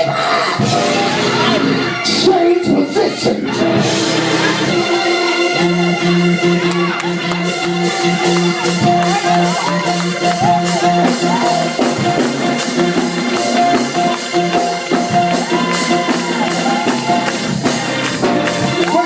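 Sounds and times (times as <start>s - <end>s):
held keyboard chords: 0.6s - 19.0s
drum beat: 3.6s - 19.0s.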